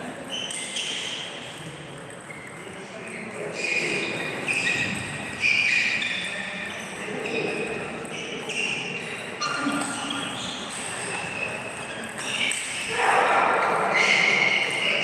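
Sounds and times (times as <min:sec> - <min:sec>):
shoes squeaking on floor: 0:00.0 - 0:12.9, 0:13.7 - 0:15.0.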